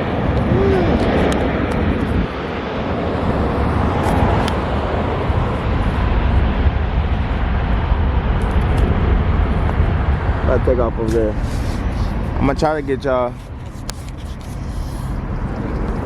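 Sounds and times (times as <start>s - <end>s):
jet engine roar of passing plane: 0.0s - 16.0s.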